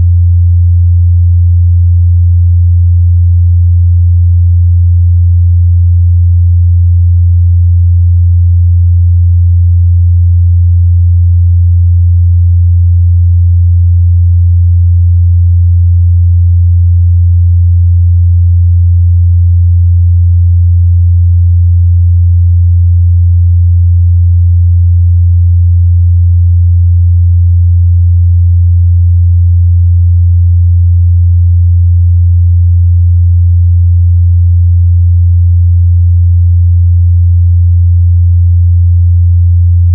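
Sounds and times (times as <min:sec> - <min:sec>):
low sine-wave test tone: 0:00.0 - 0:39.9.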